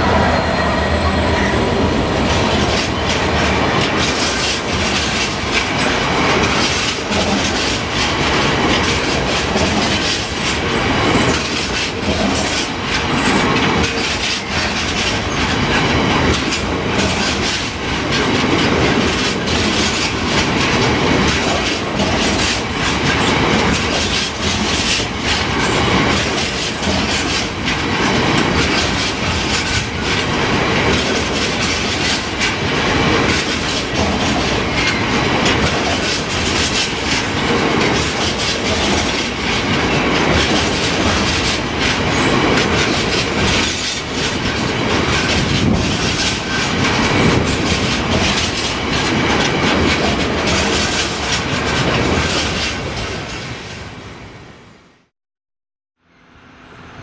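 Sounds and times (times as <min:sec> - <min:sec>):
train wheels rumbling on rails: 0:00.0 - 0:54.4
wheels clicking over rail joints: 0:02.3 - 0:53.5.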